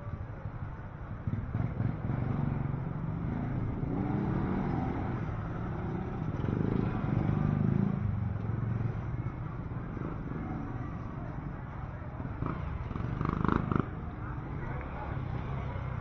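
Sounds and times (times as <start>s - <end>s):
market background noise: 0.0s - 16.0s.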